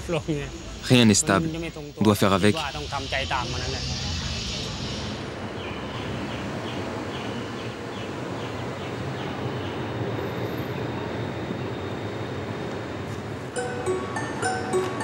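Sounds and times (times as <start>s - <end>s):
rumbling background noise: 0.0s - 13.6s.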